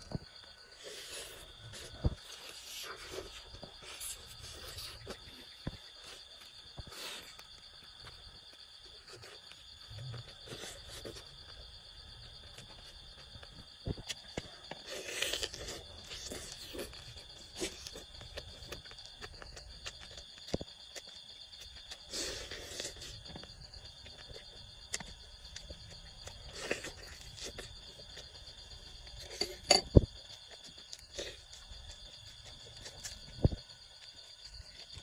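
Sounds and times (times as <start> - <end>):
insect chorus trilling: 0.0 - 35.0.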